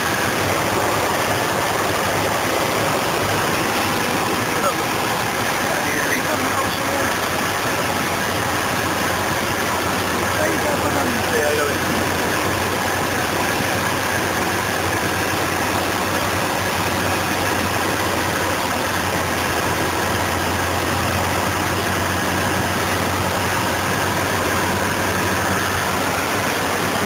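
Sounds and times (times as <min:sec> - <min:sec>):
light aircraft engine and propeller: 0:00.0 - 0:27.0.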